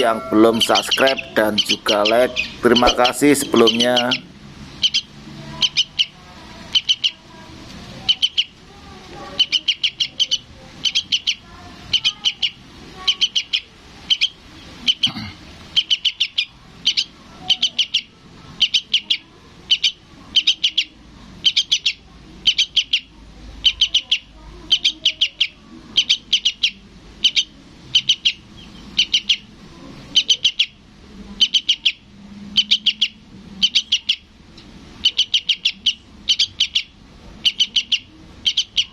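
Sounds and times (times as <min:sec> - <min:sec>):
fledgling bird chirping: 0:00.0 - 0:38.9.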